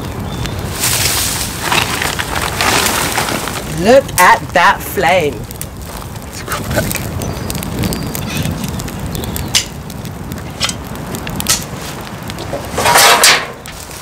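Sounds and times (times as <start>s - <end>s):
dry grass burning with crackles: 0.0s - 14.0s.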